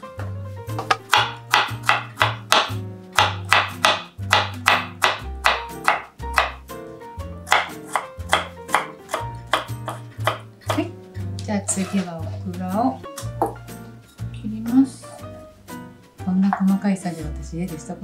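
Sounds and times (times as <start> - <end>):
background music with steady beat: 0.0 - 18.0.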